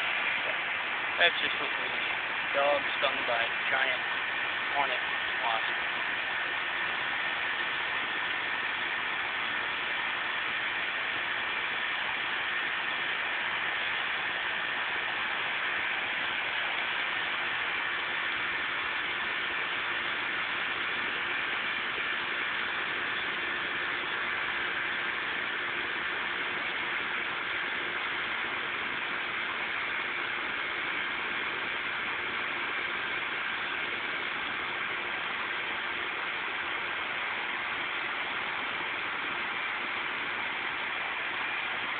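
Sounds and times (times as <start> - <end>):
faint constant hum: 0.0 - 41.9
outdoor background hiss: 0.0 - 41.9.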